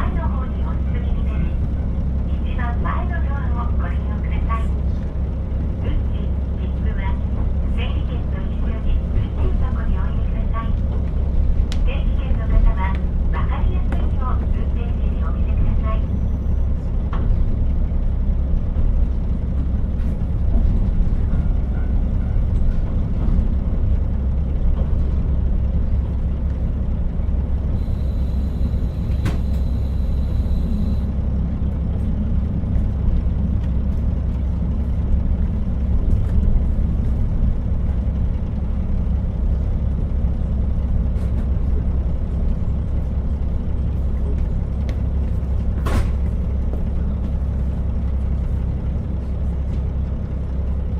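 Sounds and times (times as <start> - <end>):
diesel railcar engine rumble: 0.0 - 50.9.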